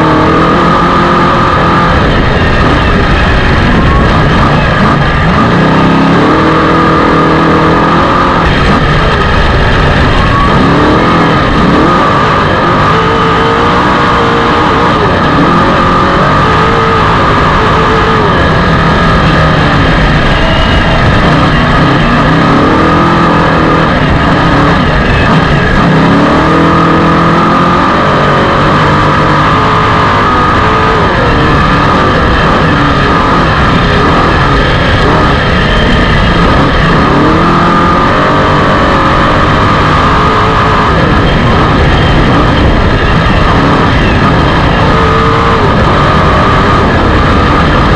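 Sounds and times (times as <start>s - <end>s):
engine revving hard: 0.0s - 47.9s
high whine: 0.0s - 47.9s
rushing noise: 0.0s - 47.9s.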